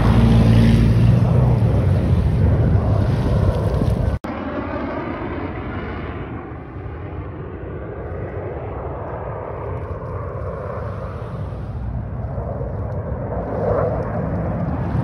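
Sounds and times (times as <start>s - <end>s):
jets flying over: 0.0s - 15.0s.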